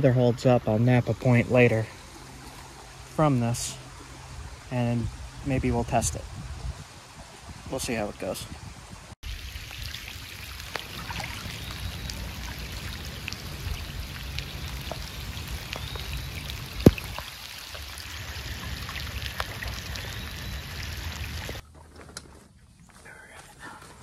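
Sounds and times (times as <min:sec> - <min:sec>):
water rushing: 0:00.0 - 0:08.4, 0:09.2 - 0:21.6.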